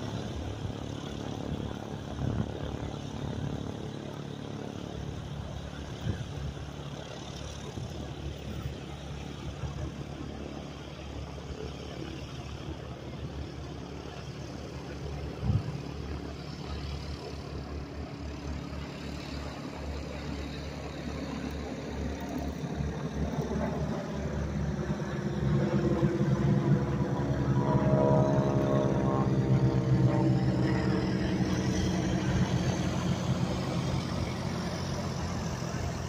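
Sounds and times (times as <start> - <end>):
biplane engines droning: 0.0 - 36.0.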